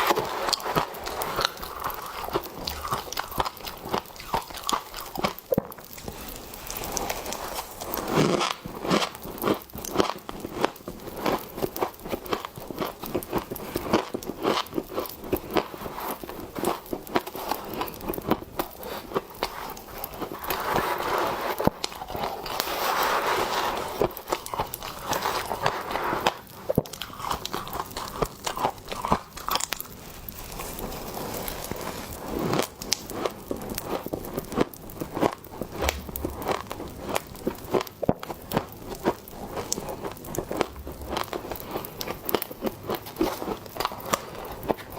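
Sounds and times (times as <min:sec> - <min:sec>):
crunchy chewing of frost: 0:00.0 - 0:44.9.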